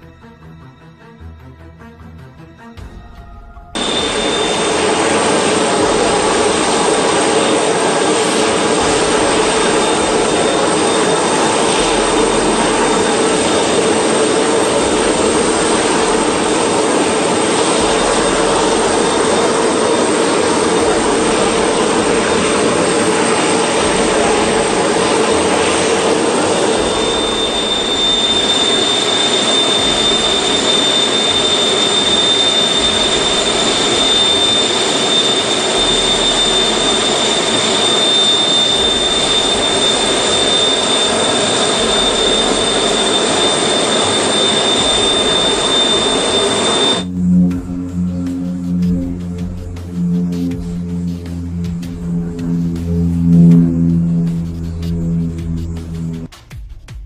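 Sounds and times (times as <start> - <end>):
droning rumble from the sky: 3.6 - 56.4
thin high whine: 3.7 - 56.4.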